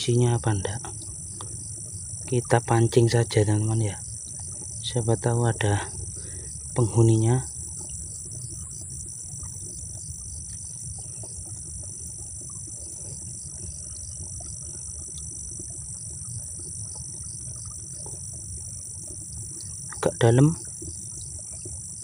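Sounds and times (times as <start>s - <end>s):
insects chirring: 0.0s - 22.0s
low steady rumble: 0.0s - 22.0s.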